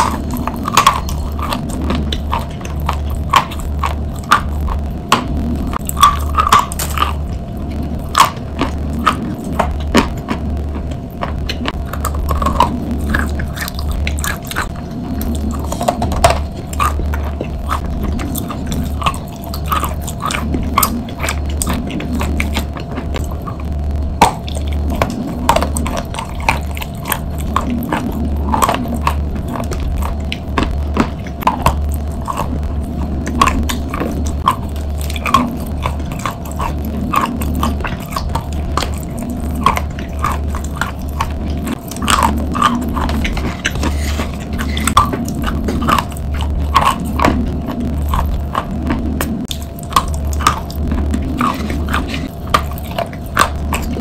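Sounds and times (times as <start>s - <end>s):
crunching chalk: 0.0s - 54.0s
wet chewing: 0.0s - 54.0s.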